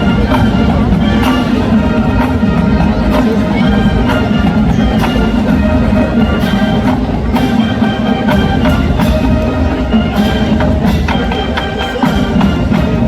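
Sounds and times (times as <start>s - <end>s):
marching band playing: 0.0s - 13.0s
steady drum beat: 0.0s - 13.0s.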